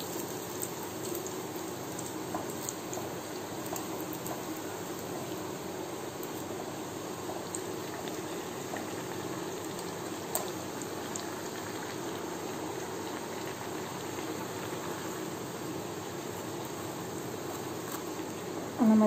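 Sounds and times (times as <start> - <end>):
doughnuts sizzling in oil: 0.0 - 19.0.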